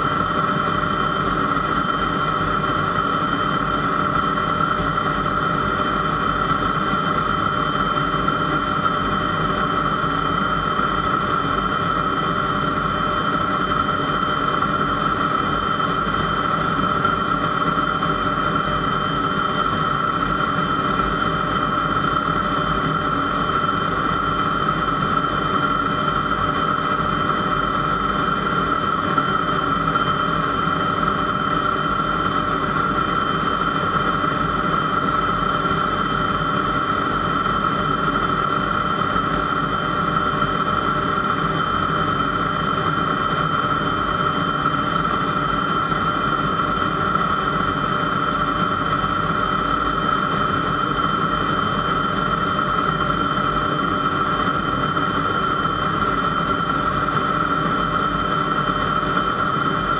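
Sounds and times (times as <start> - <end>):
jet engine whining: 0.0 - 59.9.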